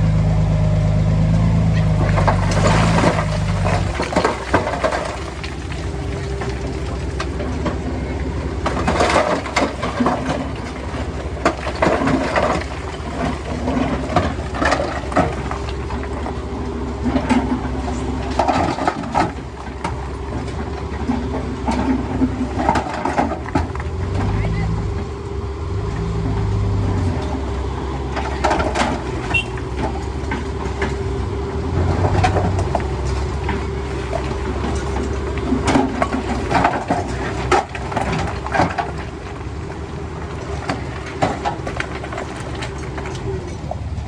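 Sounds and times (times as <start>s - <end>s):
diesel construction machinery running: 0.0s - 44.0s.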